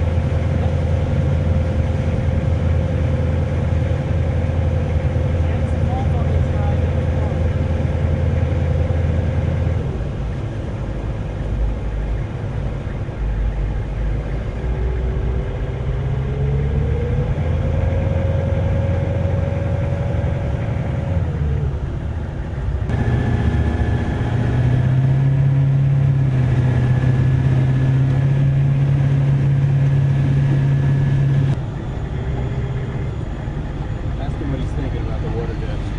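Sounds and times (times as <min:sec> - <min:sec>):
large vehicle engines running: 0:00.0 - 0:35.9.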